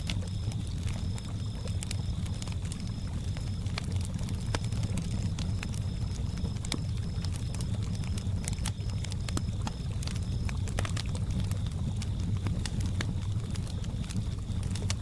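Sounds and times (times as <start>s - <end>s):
campfire crackling and popping: 0.0s - 15.0s
crickets chirping: 0.0s - 15.0s
low rumble of lake water: 0.0s - 15.0s.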